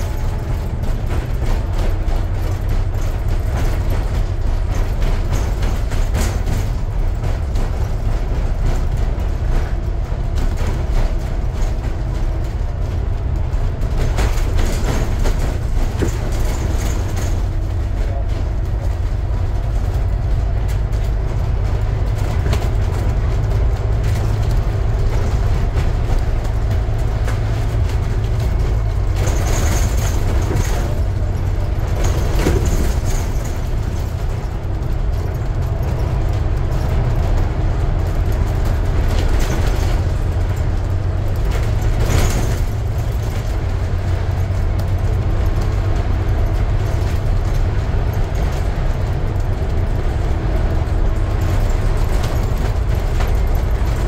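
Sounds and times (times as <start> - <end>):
bus diesel engine drone: 0.0 - 54.0
road rumble: 0.0 - 54.0.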